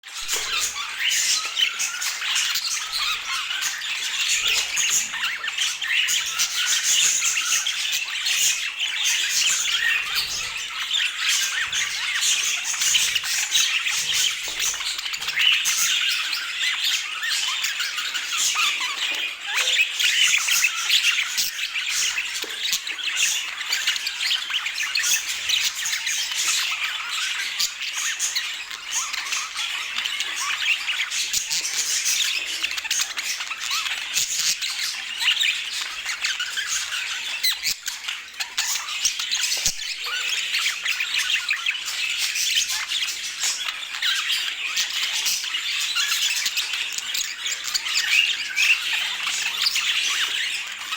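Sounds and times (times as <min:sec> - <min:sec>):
budgerigars chattering and squawking: 0:00.1 - 0:50.9.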